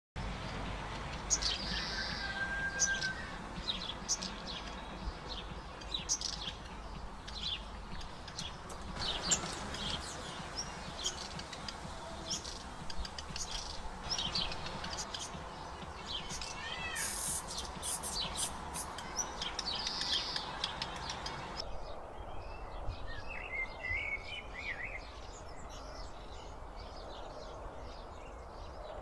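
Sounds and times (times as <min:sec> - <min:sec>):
low outdoor background: 0:00.2 - 0:29.0
small birds chirping: 0:00.2 - 0:29.0.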